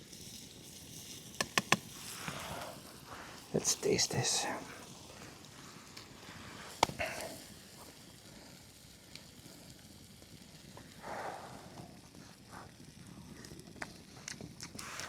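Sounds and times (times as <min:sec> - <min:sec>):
food sizzling in a pan: 0:00.0 - 0:13.4, 0:14.6 - 0:15.0.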